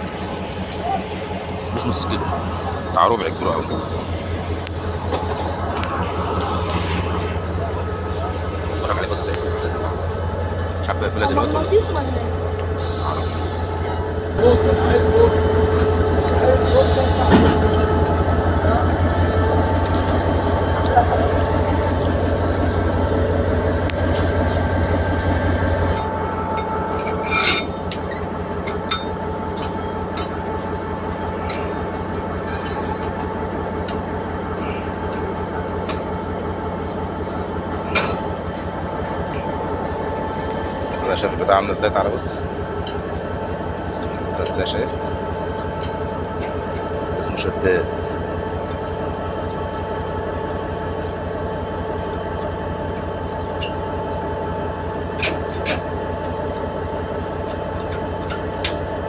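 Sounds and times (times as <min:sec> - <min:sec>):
diesel train droning: 0:00.0 - 0:59.0
steady whine: 0:00.0 - 0:59.0.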